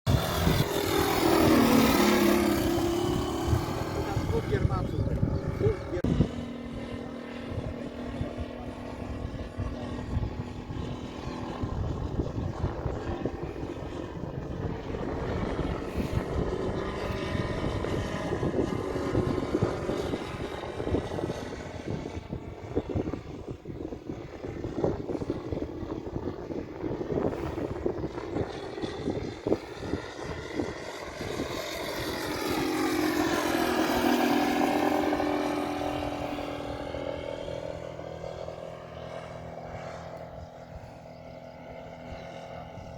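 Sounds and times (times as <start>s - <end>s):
model aircraft engine running: 0.1s - 42.9s.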